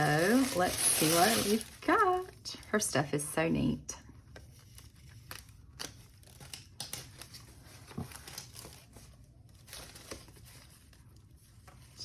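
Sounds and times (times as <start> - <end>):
packaging rustling and crinkling: 0.0 - 2.4, 4.4 - 12.0.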